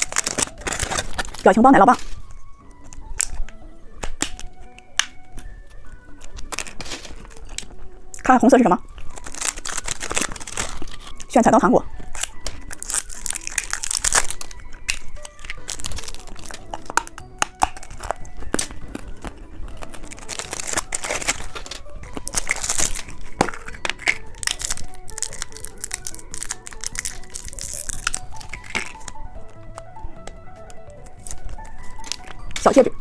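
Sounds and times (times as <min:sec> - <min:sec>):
plastic wrappers crinkling and tearing: 0:00.0 - 0:33.0.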